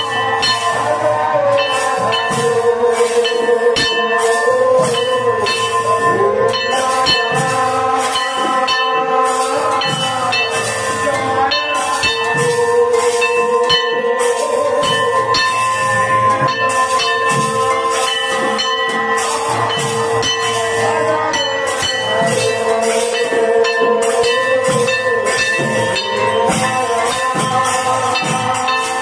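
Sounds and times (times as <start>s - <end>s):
hand cymbals clashing: 0.0s - 29.0s
hand drum: 0.0s - 29.0s.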